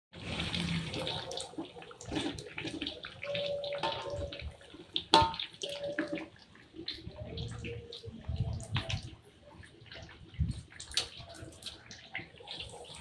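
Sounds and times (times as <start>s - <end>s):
fish cakes frying in oil: 0.2s - 13.0s.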